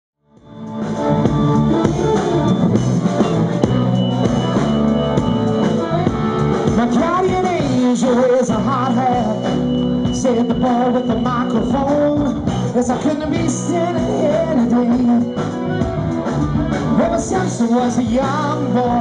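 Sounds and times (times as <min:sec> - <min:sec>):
rock band playing: 0:00.3 - 0:19.0
wavering melody line: 0:00.4 - 0:19.0.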